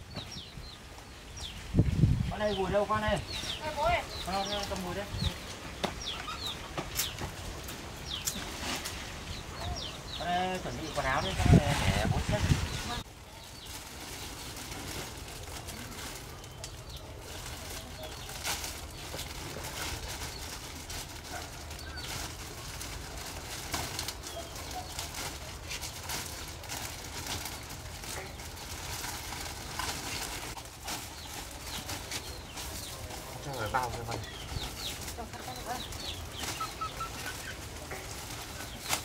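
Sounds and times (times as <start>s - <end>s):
birds calling: 0.0s - 22.6s, 23.2s - 39.0s.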